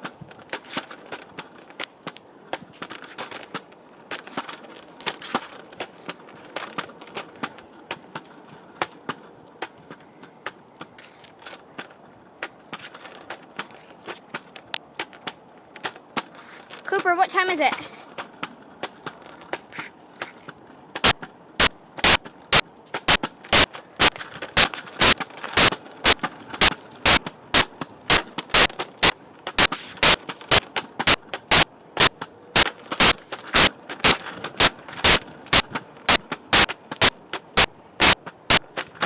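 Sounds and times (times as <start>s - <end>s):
knocks in step with walking: 0.0s - 39.0s.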